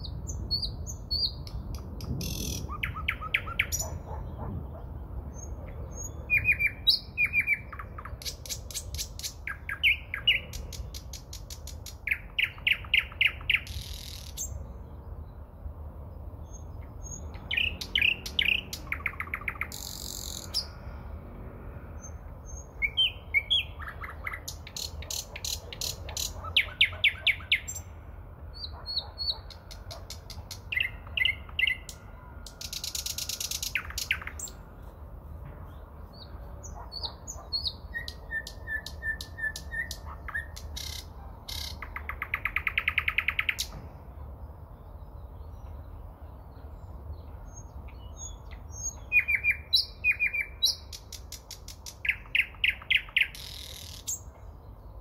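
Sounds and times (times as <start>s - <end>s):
nightingale singing: 0.0s - 15.4s, 16.4s - 20.8s, 22.0s - 35.0s, 36.0s - 43.8s, 44.8s - 55.0s.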